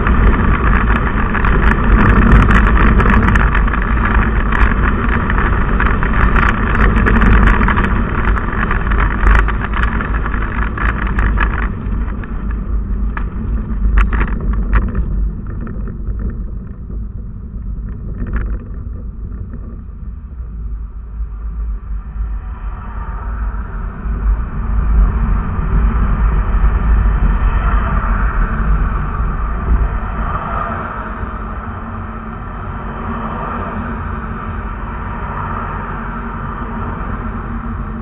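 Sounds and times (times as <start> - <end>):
wind road and engine noise: 0.0 - 38.0.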